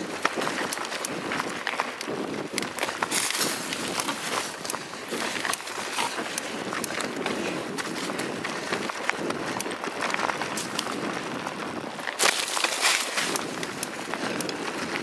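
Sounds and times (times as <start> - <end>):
bike rattling over bumps: 0.0 - 15.0
bike tyres rolling on dirt: 0.0 - 15.0.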